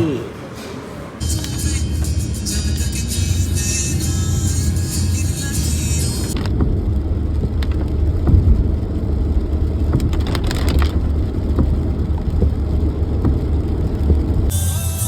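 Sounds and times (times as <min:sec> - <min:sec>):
car rumble from inside cabin: 0:01.2 - 0:15.0.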